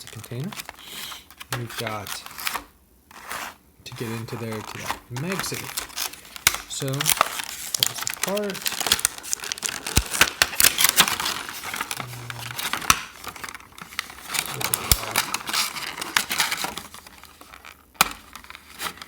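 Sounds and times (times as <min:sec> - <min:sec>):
plastic container crinkling: 0:00.0 - 0:19.0.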